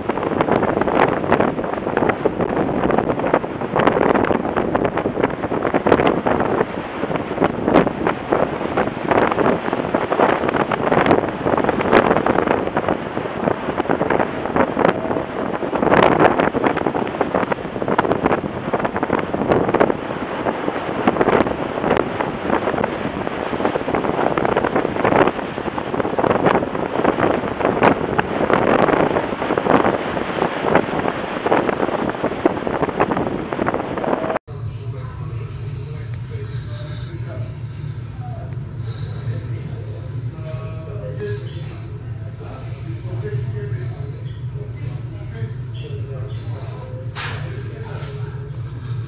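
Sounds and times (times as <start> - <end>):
heavy seas surging and breaking: 0.0 - 49.0
wind buffeting microphone: 0.0 - 49.0.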